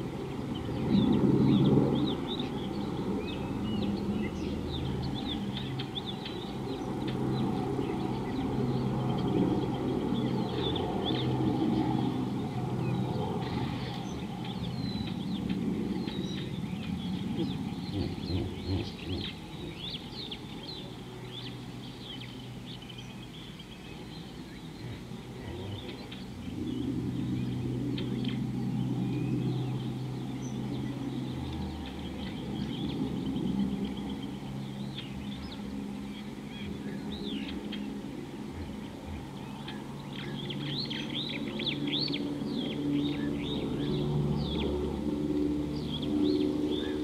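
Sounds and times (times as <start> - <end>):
low steady hum: 0.0 - 47.0
wild birds chirping: 0.0 - 47.0.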